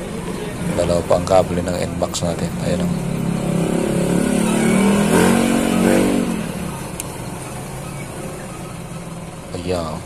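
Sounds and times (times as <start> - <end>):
small engine revving and idling: 0.2 - 9.5.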